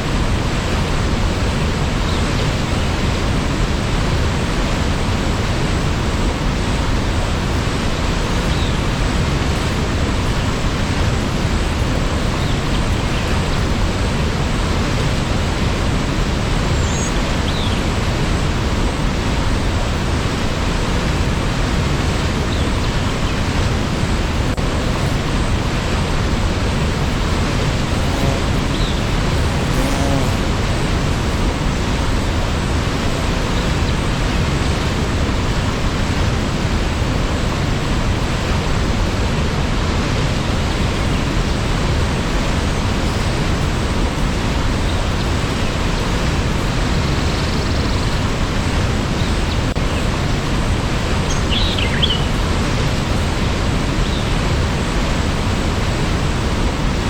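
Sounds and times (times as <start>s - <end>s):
waterfall roaring: 0.0s - 47.0s, 48.0s - 57.0s.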